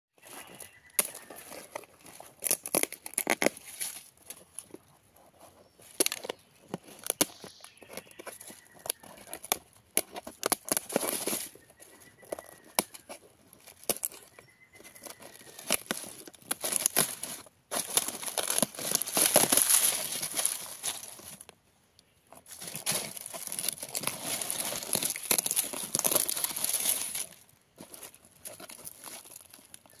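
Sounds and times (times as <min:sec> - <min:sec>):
dried gourd skin crackling and tearing: 0:00.2 - 0:30.0.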